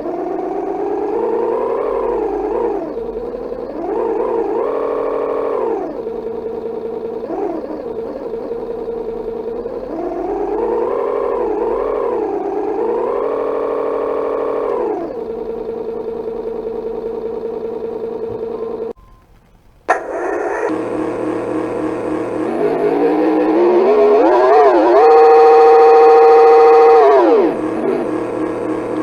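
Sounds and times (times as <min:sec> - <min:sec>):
simulated engine through small speaker: 0:00.0 - 0:29.0.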